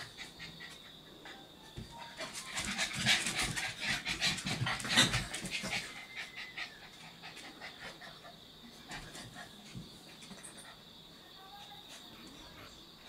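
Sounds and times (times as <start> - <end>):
puppy panting: 0.0 - 10.9.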